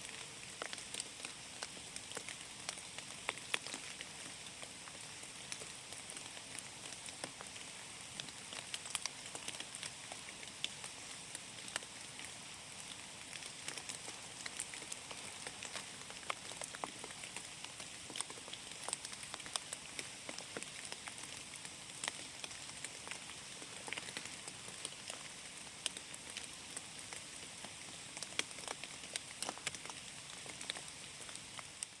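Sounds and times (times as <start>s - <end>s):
rain drops ticking close: 0.0s - 32.0s
rain hiss in forest: 0.0s - 32.0s.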